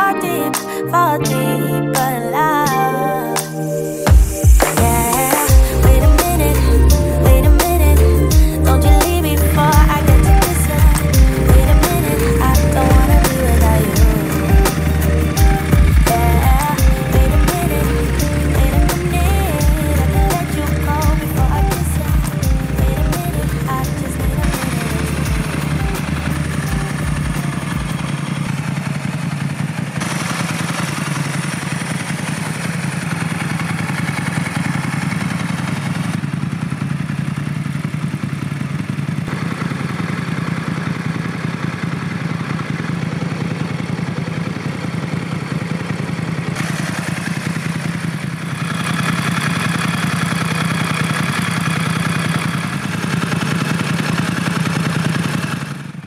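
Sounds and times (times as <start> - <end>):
motorcycle engine idling: 4.1 - 56.0
engine mechanical clatter: 4.2 - 56.0.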